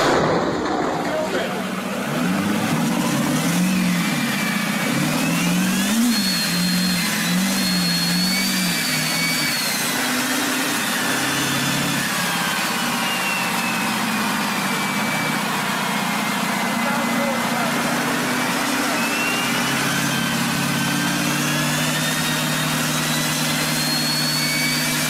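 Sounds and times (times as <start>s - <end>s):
truck engine running: 0.0s - 25.0s
turbo whistle: 3.5s - 25.0s.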